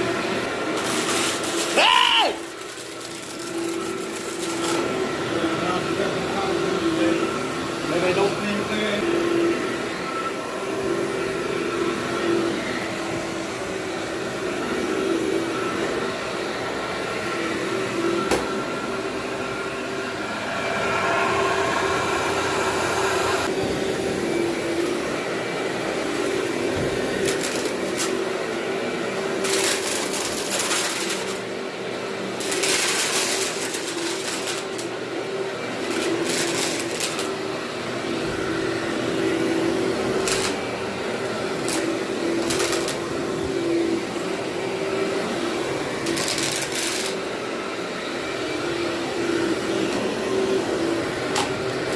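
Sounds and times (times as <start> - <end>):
vacuum cleaner humming: 0.0 - 51.9.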